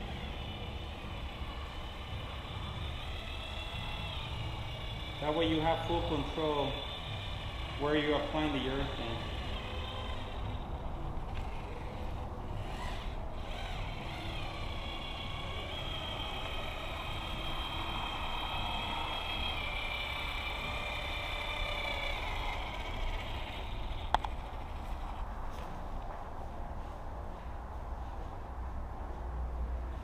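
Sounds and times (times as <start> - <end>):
caulking gun motor whirring: 0.0 - 25.3.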